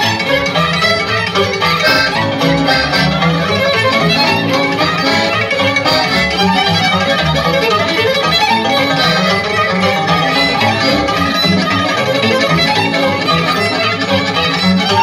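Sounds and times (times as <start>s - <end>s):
fiddle-led folk dance music: 0.0s - 15.0s
plucked strings: 0.0s - 15.0s.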